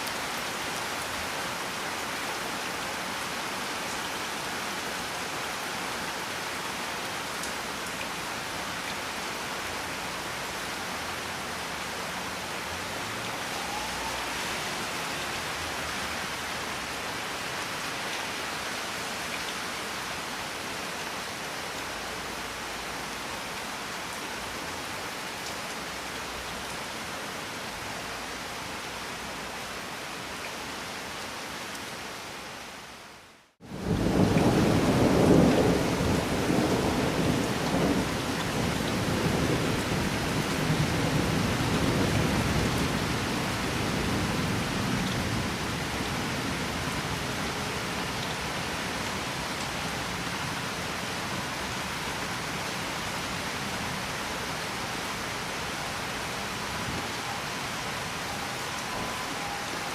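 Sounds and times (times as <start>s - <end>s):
loud rain: 0.0s - 59.9s
steady rain hissing: 0.0s - 59.9s.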